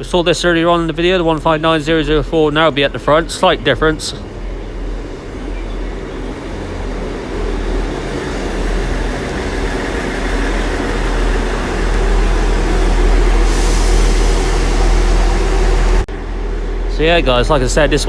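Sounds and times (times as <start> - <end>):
train diesel engines idling: 0.0 - 18.0.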